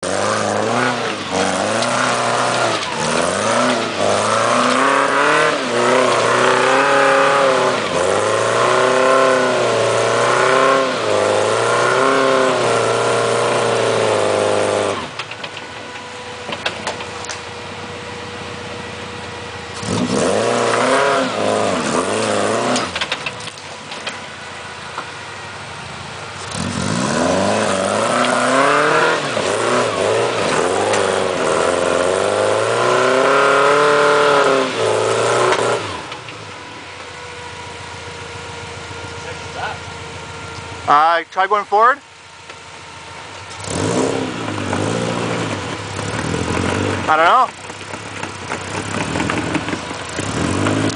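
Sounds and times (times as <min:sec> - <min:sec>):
off-road vehicle engine revving: 0:00.0 - 0:50.9.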